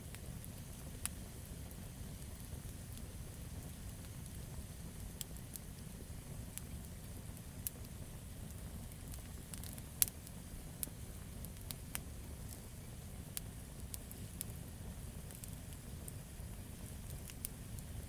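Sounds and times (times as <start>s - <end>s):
campfire crackling: 0.0s - 18.0s
low steady rumble: 0.0s - 18.0s.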